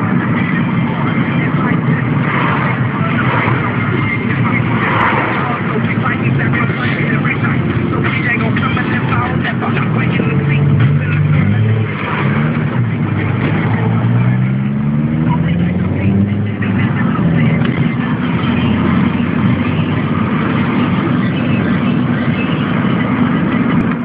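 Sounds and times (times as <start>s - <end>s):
car engine accelerating: 0.0s - 24.0s
road noise inside car: 0.0s - 24.0s.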